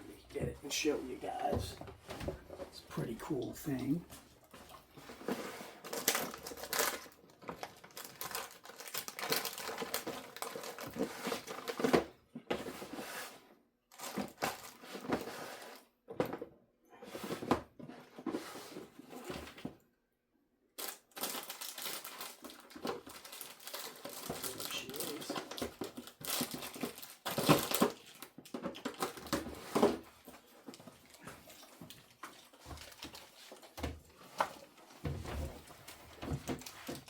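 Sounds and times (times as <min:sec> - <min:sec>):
rustling and crinkling: 0:00.0 - 0:16.4, 0:17.0 - 0:19.8, 0:20.8 - 0:37.0.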